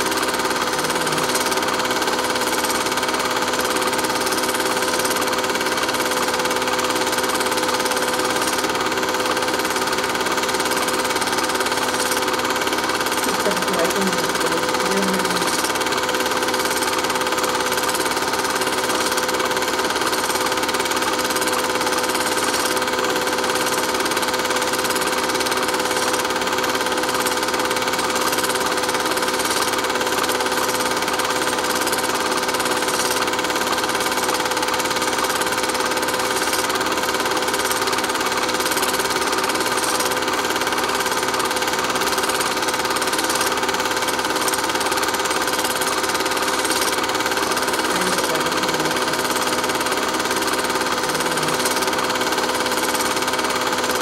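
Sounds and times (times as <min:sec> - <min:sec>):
small machine whirring: 0:00.0 - 0:54.0.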